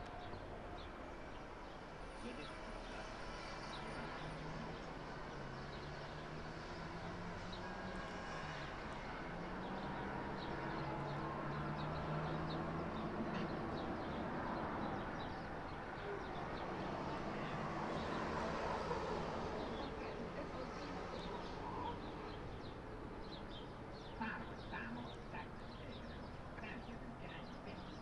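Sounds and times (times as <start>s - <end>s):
small birds chirping: 0.2s - 28.0s.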